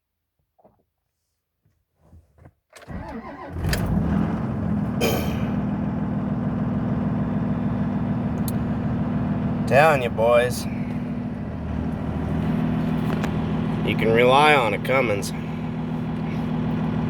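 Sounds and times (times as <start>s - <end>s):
diesel engine cranking: 2.8s - 17.0s
diesel engine idling: 3.0s - 17.0s.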